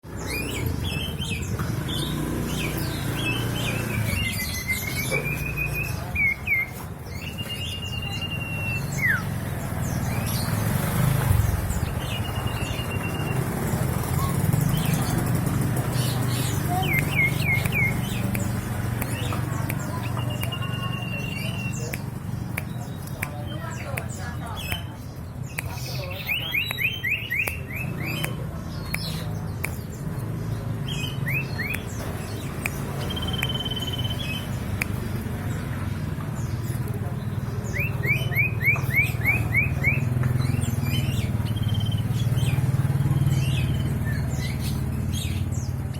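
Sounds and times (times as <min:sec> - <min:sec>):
bird singing whistles and chirps: 0:00.2 - 0:10.7, 0:11.5 - 0:15.2, 0:16.1 - 0:23.4, 0:25.4 - 0:30.0, 0:30.9 - 0:35.0, 0:37.6 - 0:45.8.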